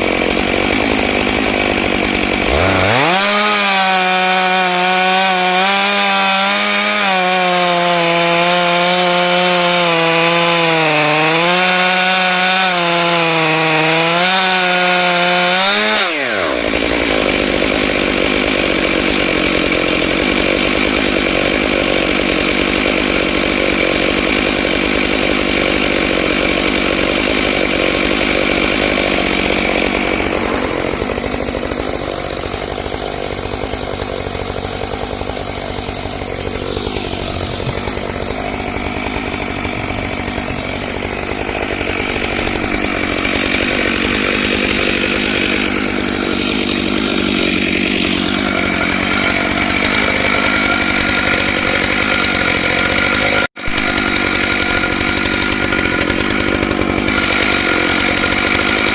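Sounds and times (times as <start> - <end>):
chainsaw cutting at full throttle: 0.0 - 58.9
chainsaw idling: 0.0 - 58.9.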